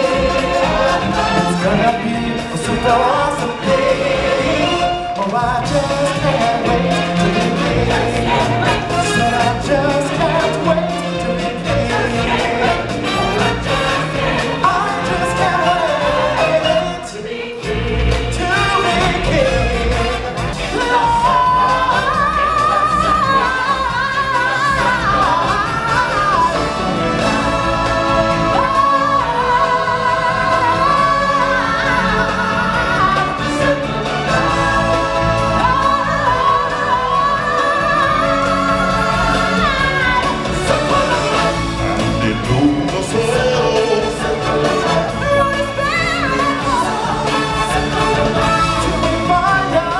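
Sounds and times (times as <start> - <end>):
stage show music with singing: 0.0 - 49.9.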